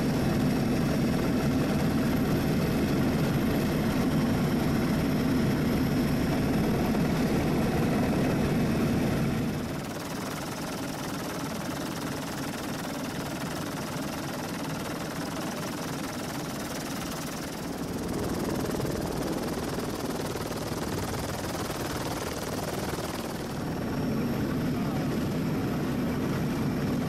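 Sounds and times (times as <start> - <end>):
helicopter rotor and engine: 0.0 - 27.0.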